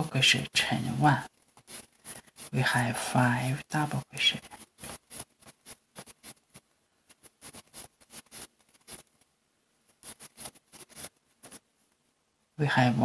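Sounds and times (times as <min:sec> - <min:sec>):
crochet hook scratching yarn: 0:00.1 - 0:11.9.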